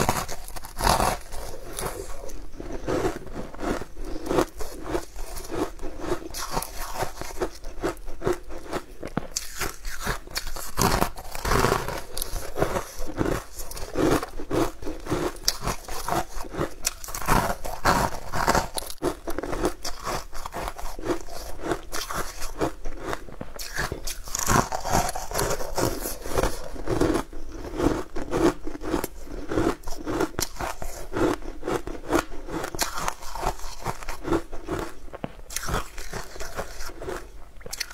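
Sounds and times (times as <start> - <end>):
biting crunchy pastry: 0.0 - 37.9
crunchy chewing: 0.0 - 37.9.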